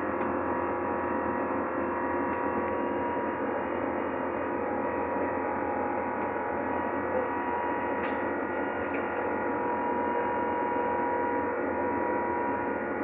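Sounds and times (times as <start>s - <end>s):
airliner cabin engine and air noise: 0.0s - 13.0s
whining hum: 0.0s - 13.0s.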